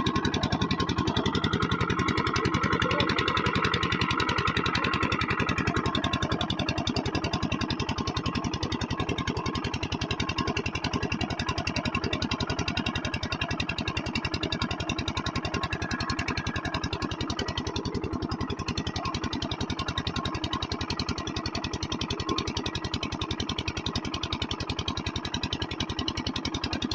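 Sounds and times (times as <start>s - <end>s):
water pump engine running: 0.0s - 26.9s.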